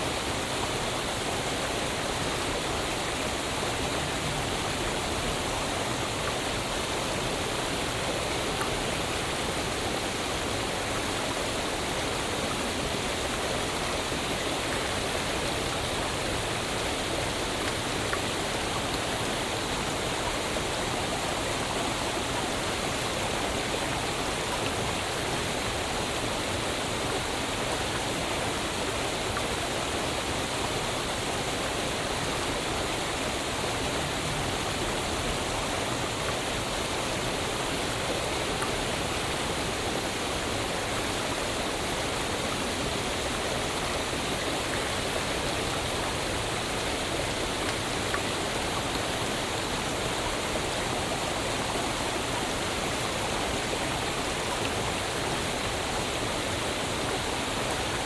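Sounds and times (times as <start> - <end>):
waterfall pouring and splashing: 0.0 - 58.0.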